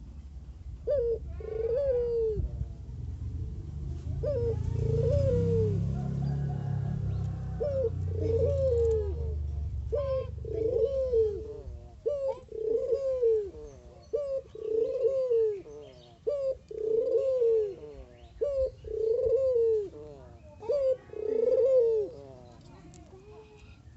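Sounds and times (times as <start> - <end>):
dove cooing: 0.8 - 2.6, 4.1 - 23.8.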